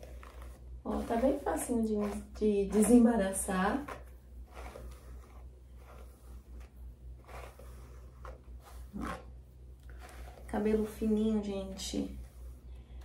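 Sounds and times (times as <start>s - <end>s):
brush strokes through wet hair: 0.0s - 13.0s
low steady hum: 0.0s - 13.0s.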